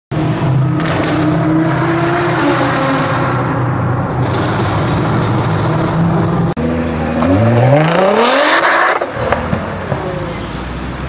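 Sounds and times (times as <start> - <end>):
car engine droning: 0.1 - 11.0
car engine revving up: 0.2 - 10.9.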